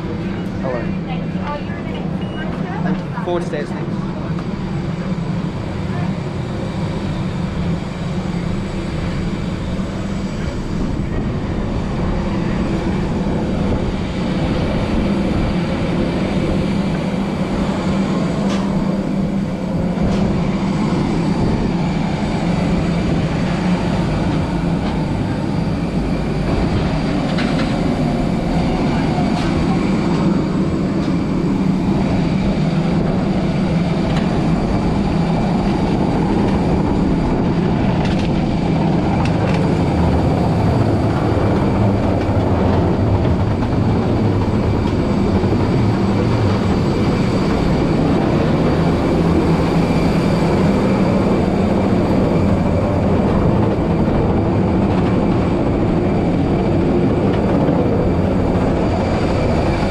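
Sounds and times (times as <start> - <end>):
jet airliner rumble: 0.0 - 59.9.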